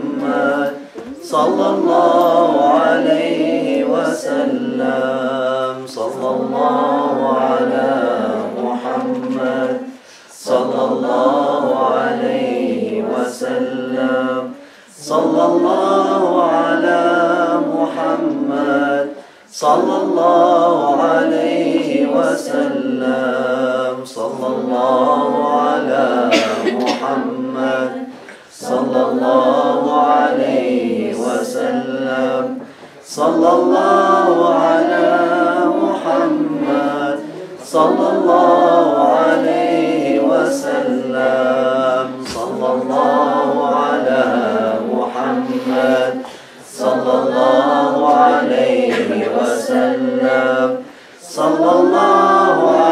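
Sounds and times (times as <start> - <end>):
group singing devotional chant: 0.0 - 52.9.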